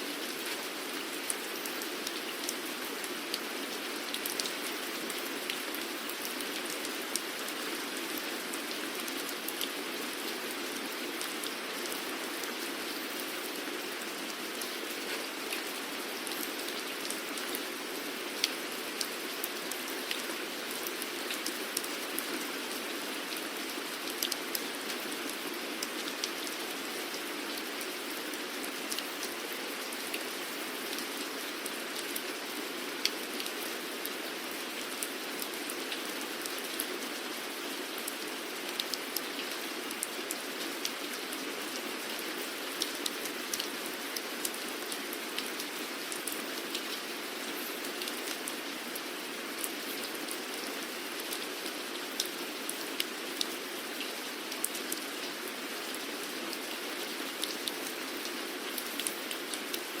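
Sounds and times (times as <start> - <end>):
steady rain hiss: 0.0 - 60.0
raindrops ticking on a surface: 0.2 - 60.0.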